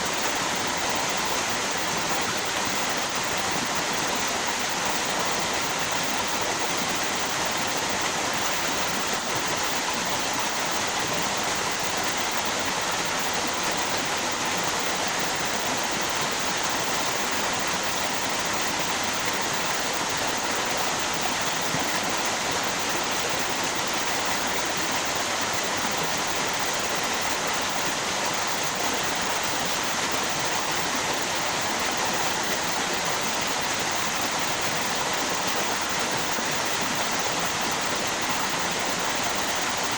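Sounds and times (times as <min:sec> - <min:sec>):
river and waterfall rushing: 0:00.0 - 0:39.9.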